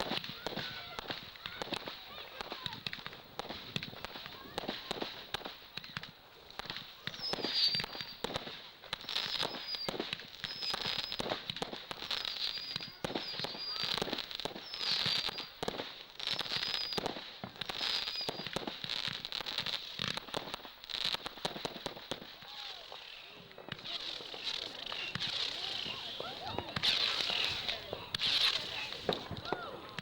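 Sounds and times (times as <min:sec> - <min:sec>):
fireworks cracking and crackling: 0:00.0 - 0:30.0.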